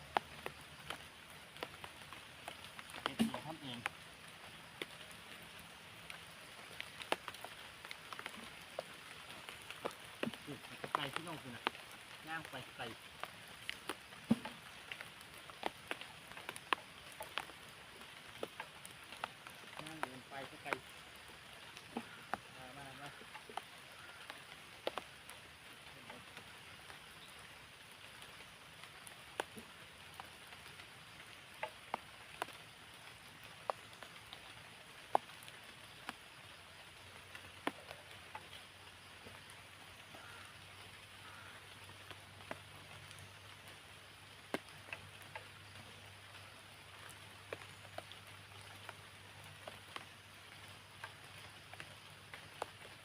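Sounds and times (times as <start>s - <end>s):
light rain hiss: 0.0s - 53.0s.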